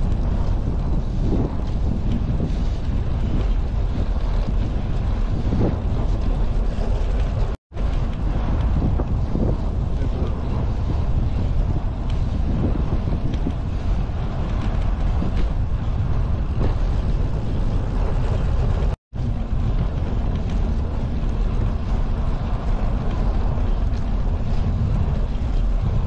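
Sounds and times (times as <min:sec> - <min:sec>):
bicycle rolling over brick paving: 0:00.0 - 0:26.0
wind on microphone: 0:00.0 - 0:26.0.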